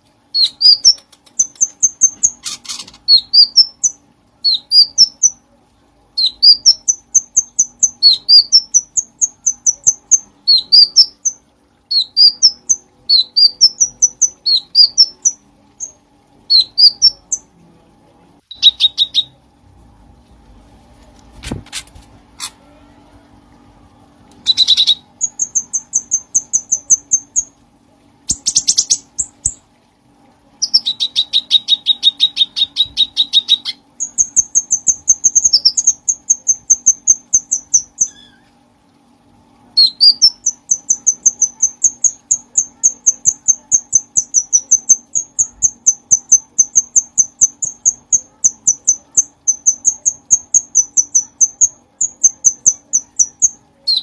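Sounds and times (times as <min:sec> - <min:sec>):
faint steady hum: 0:00.0 - 0:54.0
songbird chirping: 0:00.3 - 0:17.8, 0:18.4 - 0:21.2, 0:22.2 - 0:29.7, 0:30.5 - 0:54.0.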